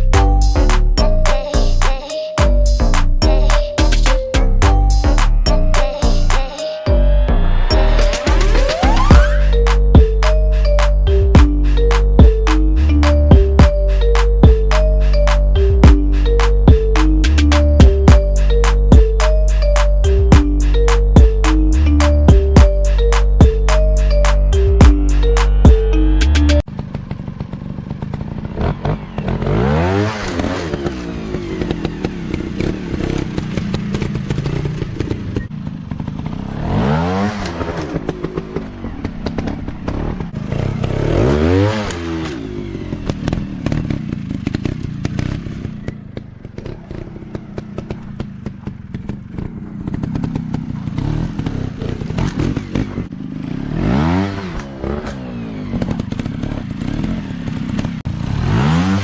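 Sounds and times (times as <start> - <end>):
dirt bike engines revving: 3.9 - 59.0.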